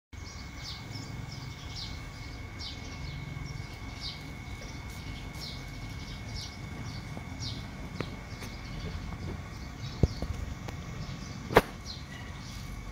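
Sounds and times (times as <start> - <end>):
small bird chirping: 0.2 - 12.9.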